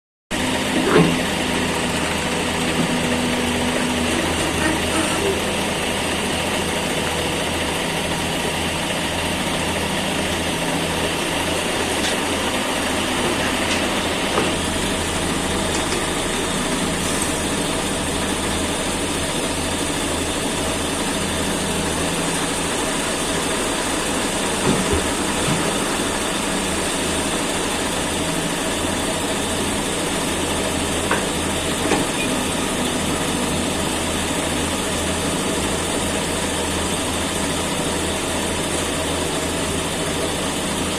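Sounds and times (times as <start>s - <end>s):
excavator diesel engine running: 0.3s - 40.9s.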